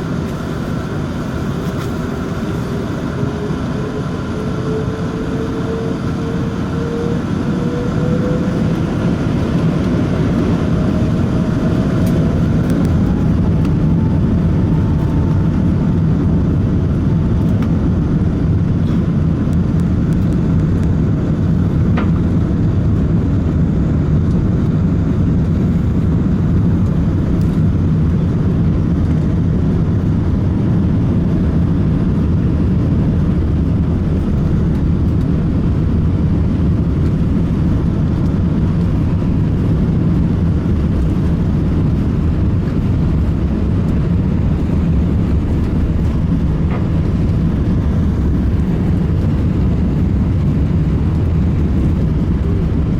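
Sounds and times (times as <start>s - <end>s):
deep engine rumble: 0.0s - 52.9s
jet engines spooling up: 0.0s - 52.9s.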